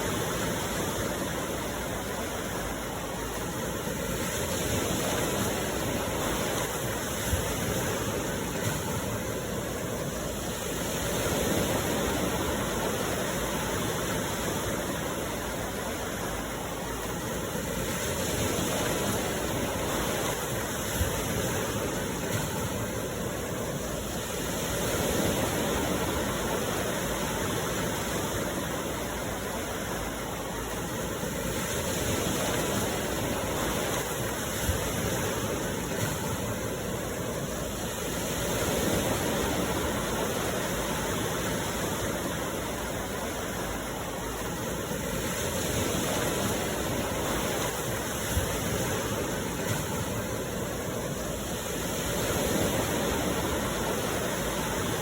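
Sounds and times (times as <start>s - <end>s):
sea surf washing onto shore: 0.0s - 55.0s.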